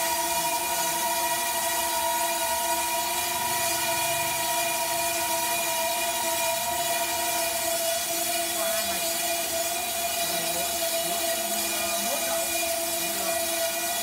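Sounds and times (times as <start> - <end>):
band saw cutting log: 0.0 - 14.0.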